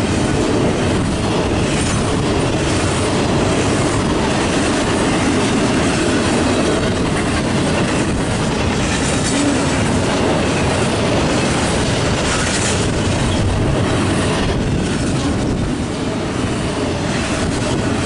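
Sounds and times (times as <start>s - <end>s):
freight train wheels rolling: 0.0s - 18.0s.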